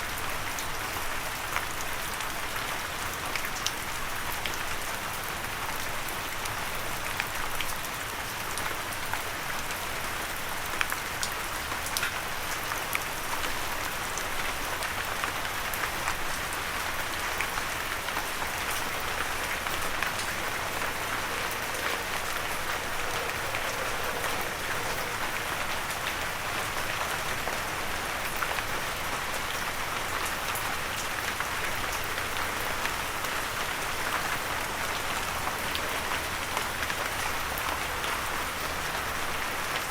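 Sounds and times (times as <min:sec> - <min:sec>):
light rain patter: 0:00.0 - 0:39.9.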